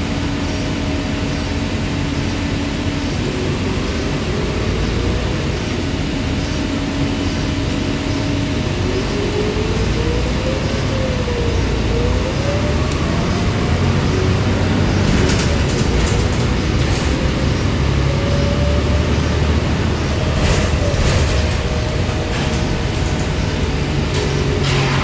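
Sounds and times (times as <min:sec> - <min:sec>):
bus engine rumble: 0:00.0 - 0:25.0.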